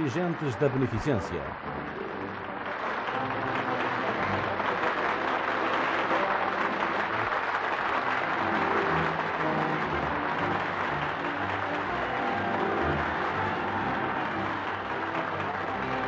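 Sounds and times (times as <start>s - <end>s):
large crowd clapping: 0.0s - 16.0s.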